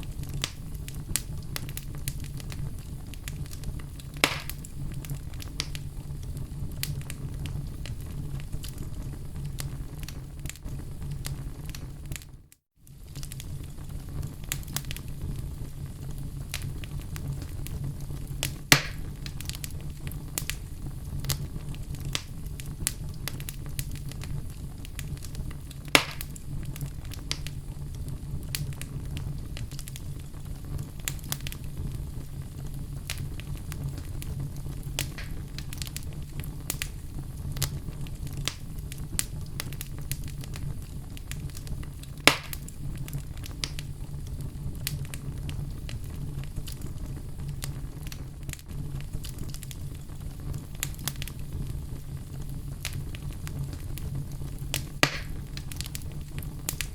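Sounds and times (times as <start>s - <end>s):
fire popping: 0.0s - 56.9s
wood fire crackling: 0.0s - 56.9s.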